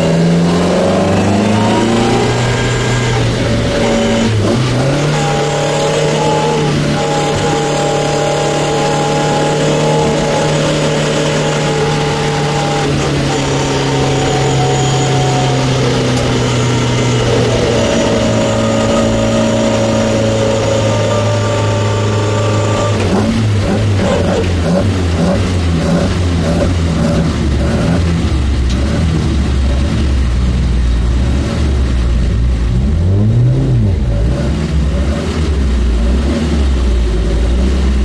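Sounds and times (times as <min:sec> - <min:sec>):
race car engine from inside cabin: 0:00.0 - 0:38.0.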